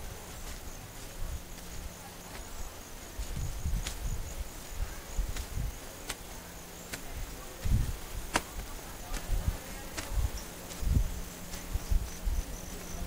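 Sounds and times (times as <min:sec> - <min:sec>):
insect high-pitched drone: 0:00.0 - 0:13.0.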